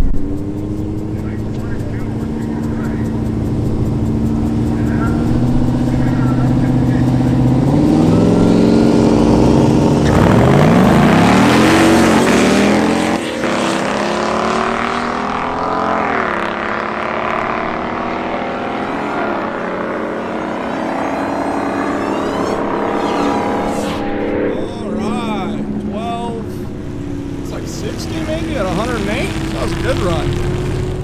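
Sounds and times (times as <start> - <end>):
car engine revving and accelerating: 0.0 - 31.0.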